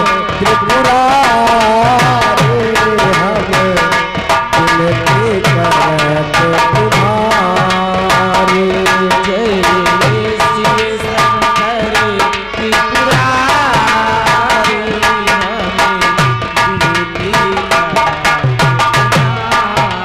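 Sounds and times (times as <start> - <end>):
fast hand-drum strokes: 0.0 - 20.0
sustained melody line: 0.0 - 20.0.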